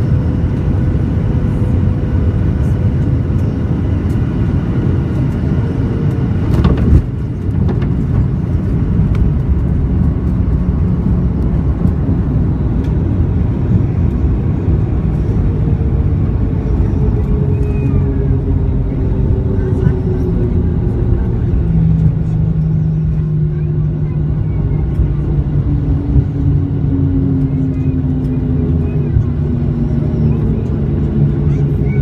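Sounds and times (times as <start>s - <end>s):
airliner cabin rumble: 0.0s - 32.0s
engine whine: 0.0s - 32.0s.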